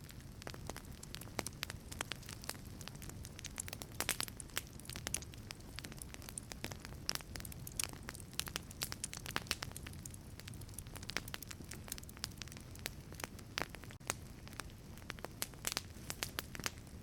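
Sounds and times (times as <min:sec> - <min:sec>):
burning wood crackling: 0:00.0 - 0:17.0
flames rumbling: 0:00.0 - 0:17.0.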